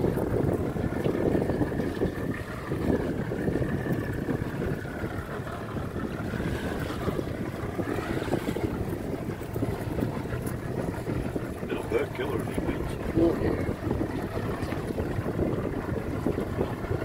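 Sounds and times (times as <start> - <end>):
motorboat engine whine: 0.0 - 17.0
wind noise on microphone: 0.0 - 17.0.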